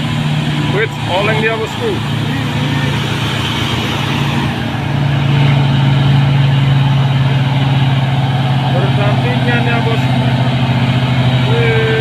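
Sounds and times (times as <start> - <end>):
diesel truck engines under load: 0.0 - 12.0.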